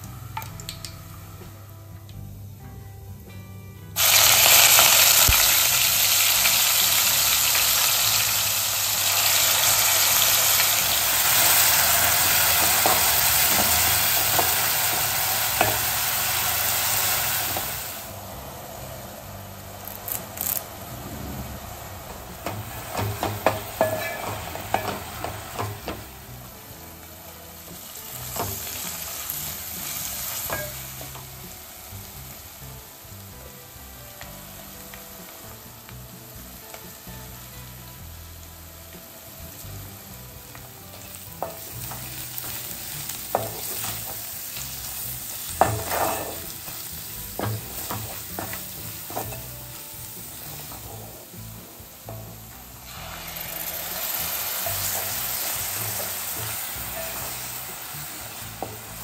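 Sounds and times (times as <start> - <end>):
onions sizzling in hot oil: 4.0 - 59.0.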